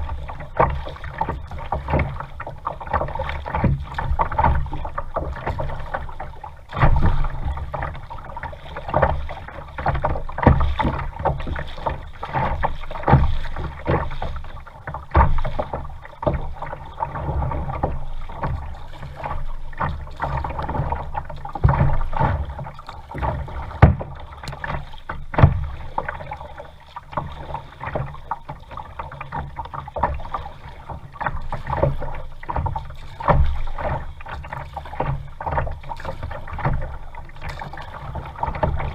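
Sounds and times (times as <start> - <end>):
kayak paddle strokes splashing: 0.0 - 38.9.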